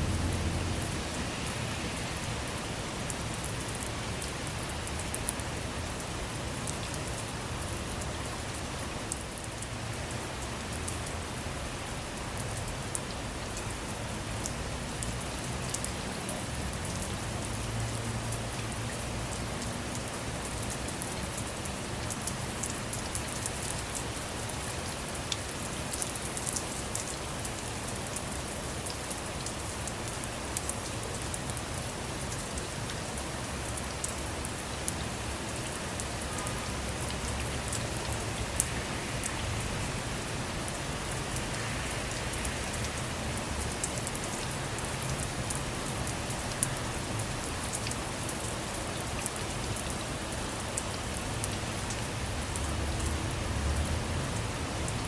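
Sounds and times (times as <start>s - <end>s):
rain on car roof and windows: 0.0s - 55.0s.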